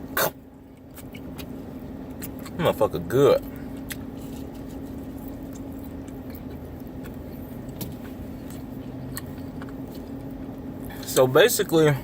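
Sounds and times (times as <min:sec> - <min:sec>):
steady low hum with tone: 0:00.0 - 0:12.0.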